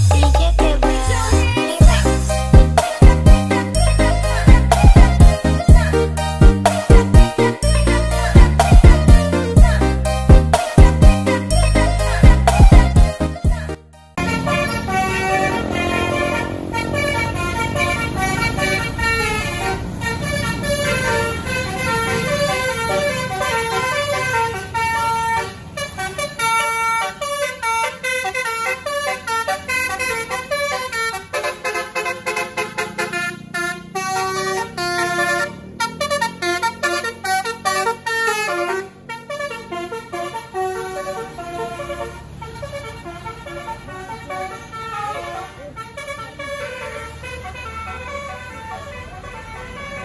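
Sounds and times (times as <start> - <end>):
melodic multi-tone air horn: 0.0 - 50.0.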